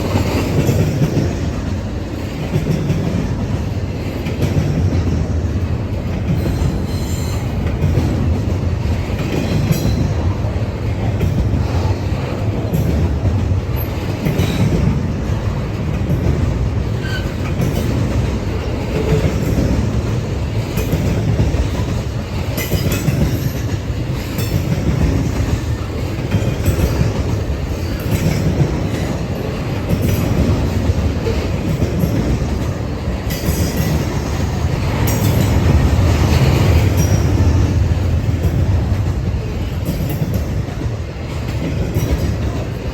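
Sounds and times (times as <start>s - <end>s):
freight train rumbling: 0.0s - 42.9s
train wheels clattering: 0.0s - 42.9s.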